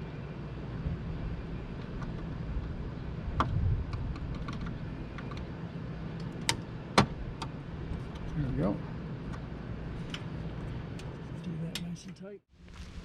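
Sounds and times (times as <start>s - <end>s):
vent fans humming: 0.0s - 12.4s.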